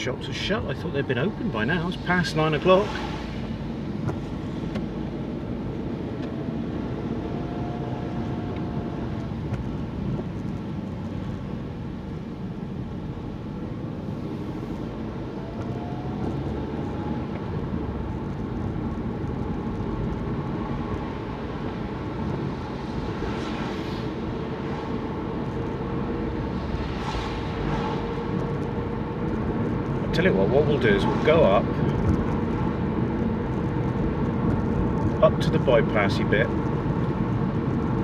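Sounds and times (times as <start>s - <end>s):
car engine: 0.0s - 38.0s
road noise: 0.0s - 38.0s.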